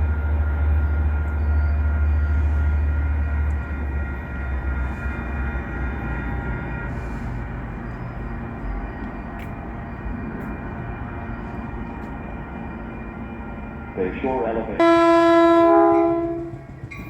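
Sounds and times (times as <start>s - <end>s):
faint whining tones: 0.0s - 14.8s
passenger train rumble: 0.0s - 17.0s.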